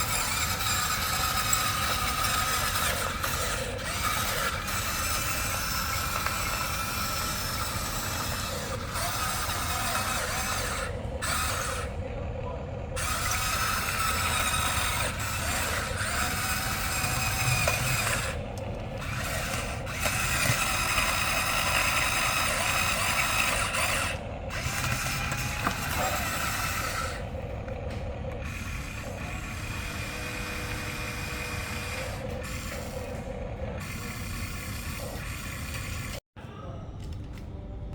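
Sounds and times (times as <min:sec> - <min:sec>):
small electric motors whirring: 0:00.0 - 0:36.2.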